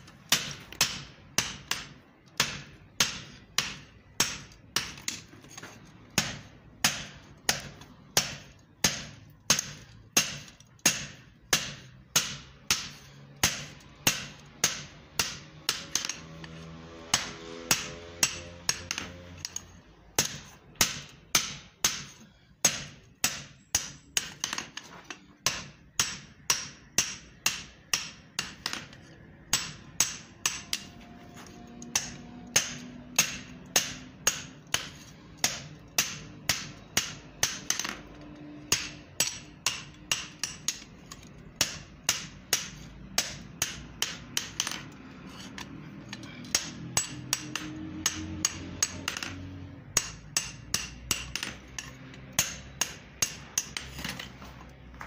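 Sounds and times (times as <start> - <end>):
hammer striking steel on anvil: 0.3 - 5.3, 6.2 - 24.8, 25.4 - 54.0.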